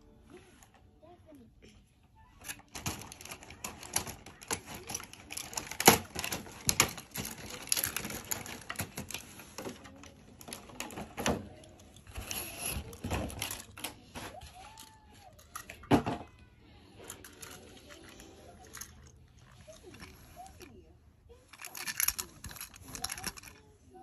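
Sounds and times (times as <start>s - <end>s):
toy trains clicking and clacking: 2.4s - 20.8s, 21.4s - 24.0s.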